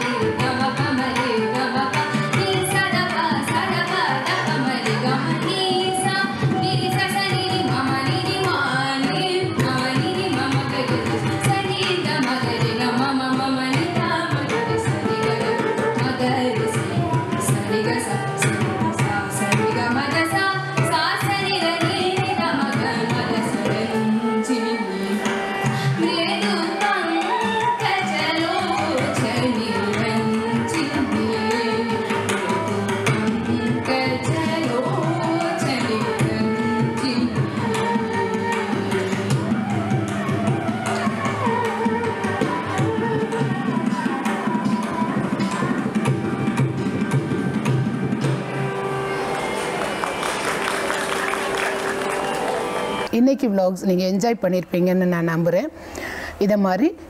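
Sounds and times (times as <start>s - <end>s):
woman singing: 0.0s - 46.8s
hand drum: 0.0s - 53.1s.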